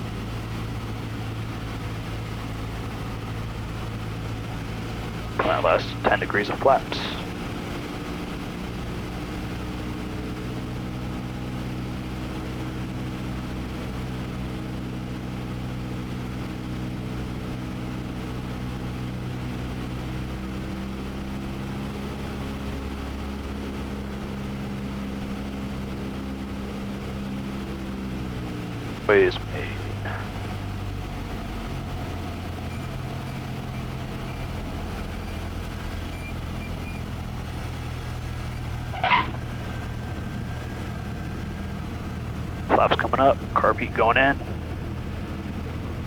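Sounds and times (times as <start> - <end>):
aircraft engine and propeller drone: 0.0 - 46.0.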